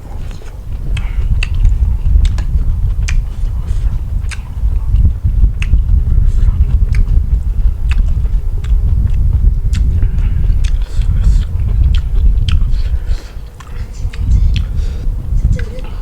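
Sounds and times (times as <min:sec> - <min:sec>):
heavy low rumble: 0:00.0 - 0:16.0
person chewing and biting food: 0:00.2 - 0:14.9.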